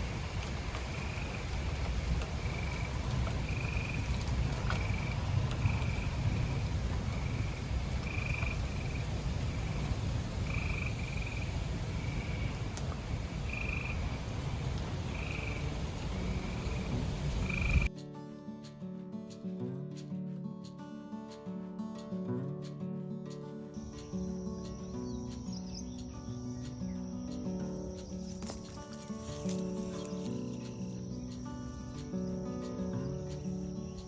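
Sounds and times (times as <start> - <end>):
frogs calling: 0.0 - 17.9, 23.7 - 34.0.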